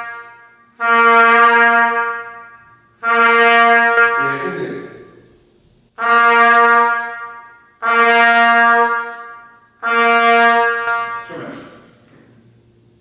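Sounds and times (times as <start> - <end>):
trumpet playing held notes: 0.0 - 5.2, 6.0 - 11.6.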